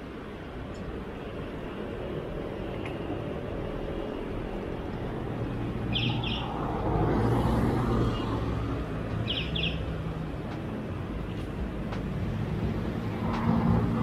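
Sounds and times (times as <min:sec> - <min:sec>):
road traffic: 0:00.0 - 0:14.0
vehicle passing: 0:02.2 - 0:14.0.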